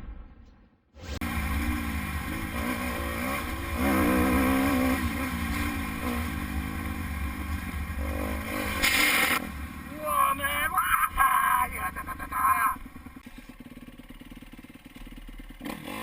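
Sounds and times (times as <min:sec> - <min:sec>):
dirt bike engine revving: 0:01.1 - 0:16.0.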